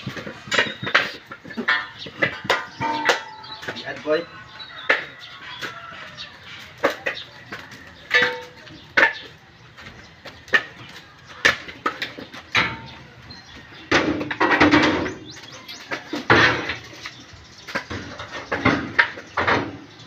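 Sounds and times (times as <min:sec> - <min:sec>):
coconuts knocking into baskets: 0:00.0 - 0:19.9.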